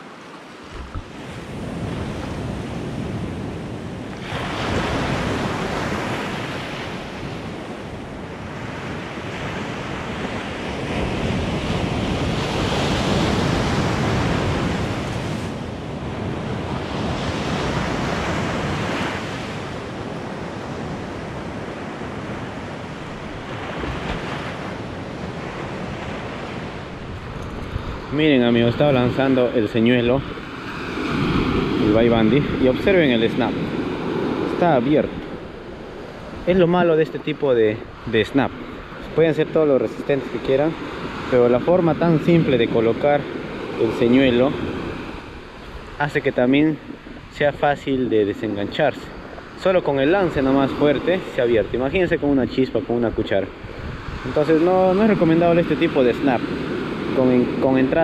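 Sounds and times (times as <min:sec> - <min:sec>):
ocean surf breaking: 0:00.0 - 0:58.0
wind buffeting microphone: 0:00.6 - 0:36.8, 0:40.7 - 0:58.0.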